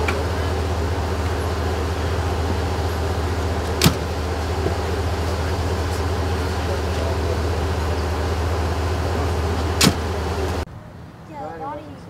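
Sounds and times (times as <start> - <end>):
ambulance engine idling: 0.0 - 11.8.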